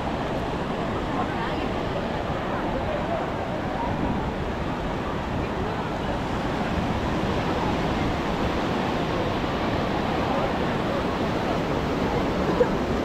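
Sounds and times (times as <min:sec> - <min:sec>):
ocean surf on a beach: 0:00.0 - 0:13.0
faint voices: 0:00.8 - 0:13.0.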